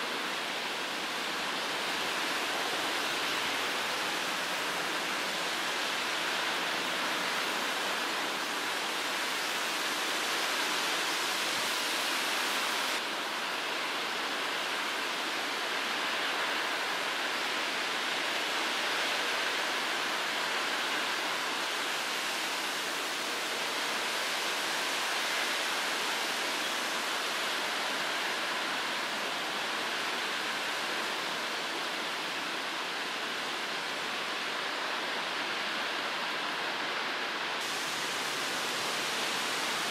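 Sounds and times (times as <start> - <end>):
distant outdoor ambience hiss: 0.0 - 39.9.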